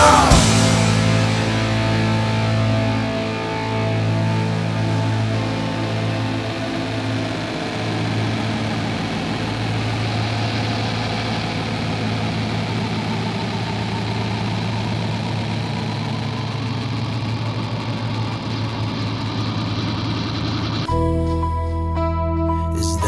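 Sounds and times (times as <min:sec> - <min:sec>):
constant low hum: 0:00.0 - 0:20.9
steady droning noise: 0:00.0 - 0:20.9.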